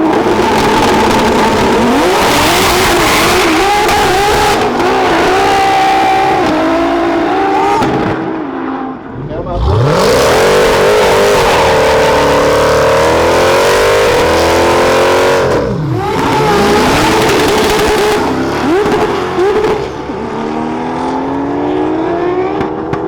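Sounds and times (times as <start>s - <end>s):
race car engines at full throttle: 0.0s - 23.0s.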